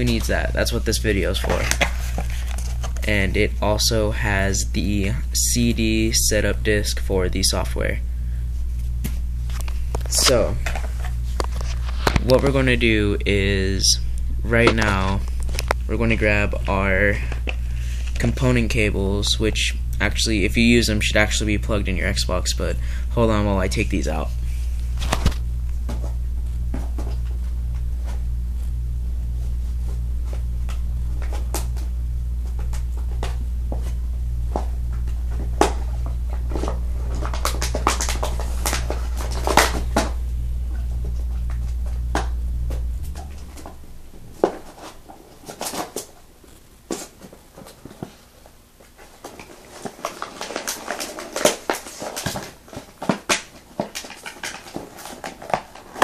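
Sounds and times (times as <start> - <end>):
low pulsing hum: 0.0 - 46.9.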